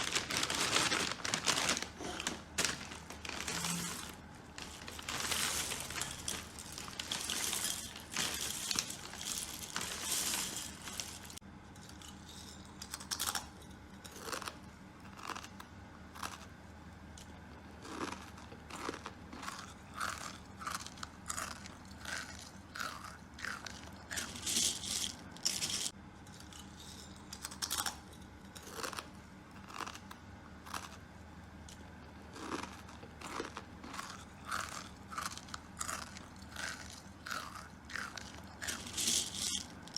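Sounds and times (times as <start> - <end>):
crunching and crackling: 0.0 - 15.6, 17.2 - 39.9.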